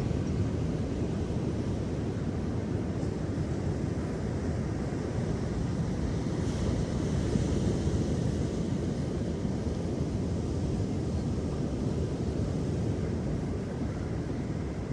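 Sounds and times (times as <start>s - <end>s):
ocean surf rumbling: 0.0s - 14.9s.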